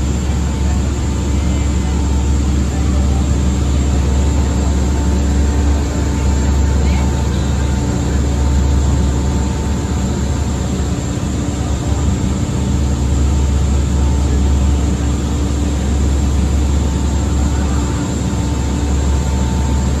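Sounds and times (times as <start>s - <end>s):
ferry engines droning: 0.0s - 20.0s.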